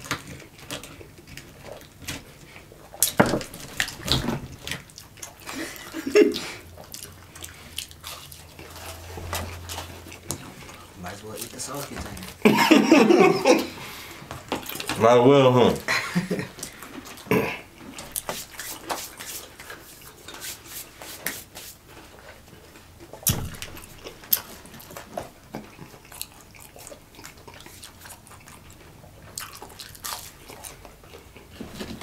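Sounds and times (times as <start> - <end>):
people chewing food: 0.0 - 32.0.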